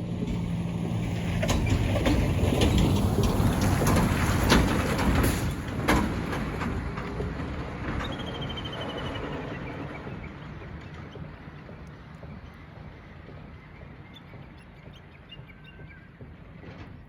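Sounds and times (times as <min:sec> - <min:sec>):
vehicle rumble passing: 0:00.0 - 0:17.0.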